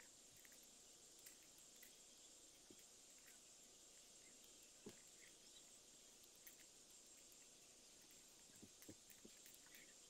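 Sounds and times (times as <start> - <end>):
small plastic parts clicking: 0.0 - 10.0.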